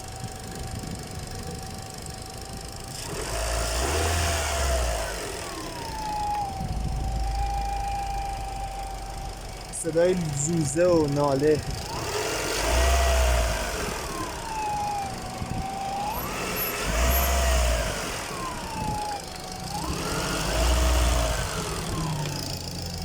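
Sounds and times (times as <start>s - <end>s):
engine howl: 0.0s - 23.0s
car engine revving: 2.8s - 23.0s.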